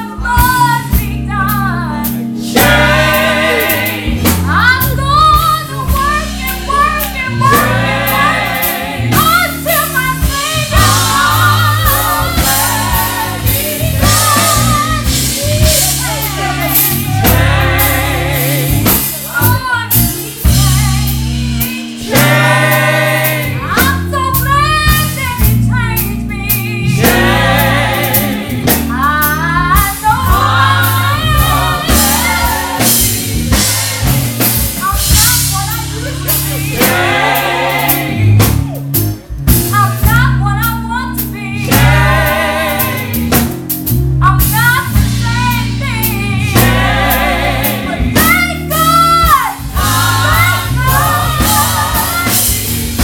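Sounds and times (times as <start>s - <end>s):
women's vocal group singing: 0.0s - 38.8s, 39.8s - 43.7s, 44.3s - 53.0s
band with drums and bass: 0.0s - 53.0s.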